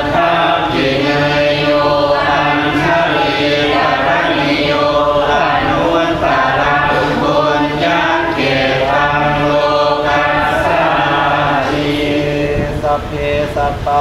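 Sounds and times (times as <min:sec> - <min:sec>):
monk chanting: 0:00.0 - 0:14.0.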